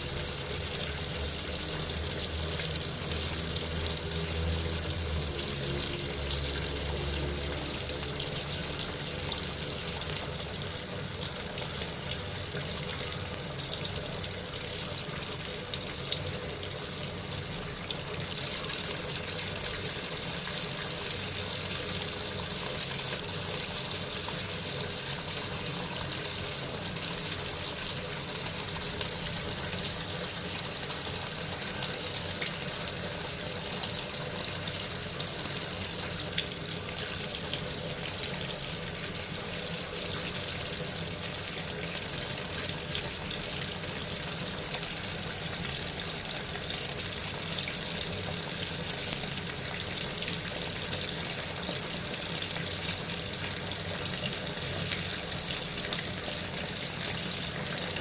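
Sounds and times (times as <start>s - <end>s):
rush of running water: 0.0s - 58.0s.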